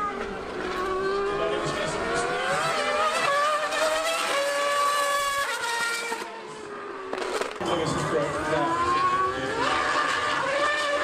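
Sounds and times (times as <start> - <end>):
motorcycle engine revving: 0.0 - 11.0
racing car engine revving: 0.0 - 11.0.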